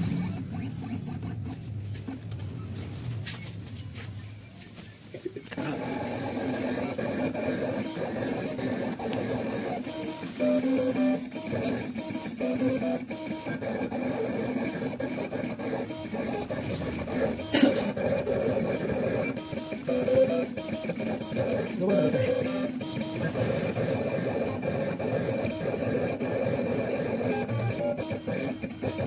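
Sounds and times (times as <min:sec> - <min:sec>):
cutting plotter motors whining: 0:00.0 - 0:29.0.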